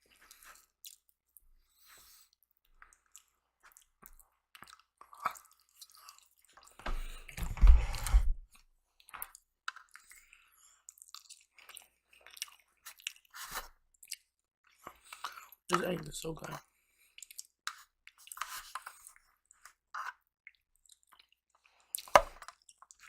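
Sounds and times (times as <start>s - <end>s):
close chewing and biting: 0.0s - 7.2s, 8.9s - 23.0s.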